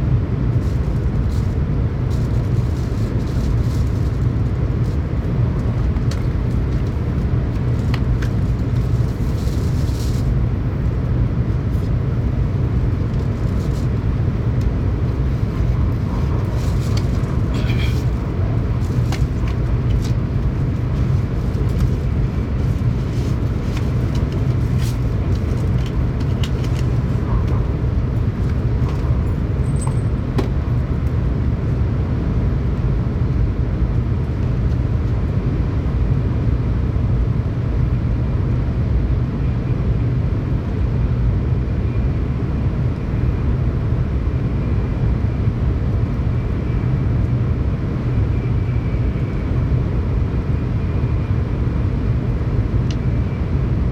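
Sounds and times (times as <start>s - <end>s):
deep train rumble: 0.0s - 53.9s.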